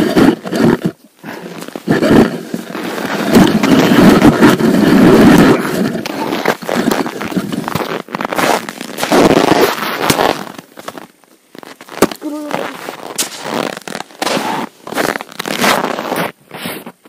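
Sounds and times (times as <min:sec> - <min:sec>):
footsteps crunching in frozen snow: 0:00.1 - 0:17.0.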